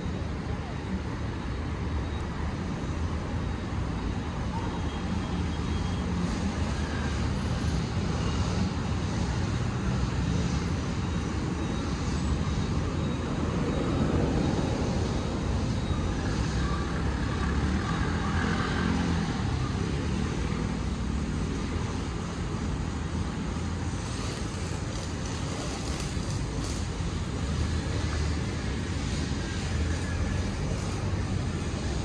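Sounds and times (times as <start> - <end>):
city traffic rumble: 0.0 - 32.0.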